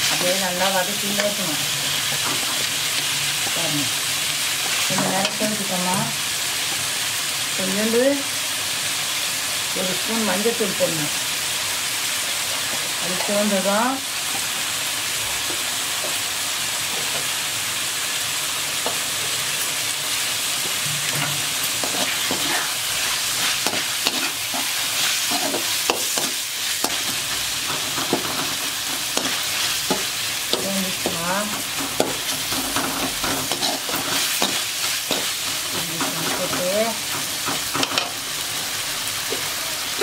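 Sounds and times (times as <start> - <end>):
vegetables sizzling in oil: 0.0 - 40.0.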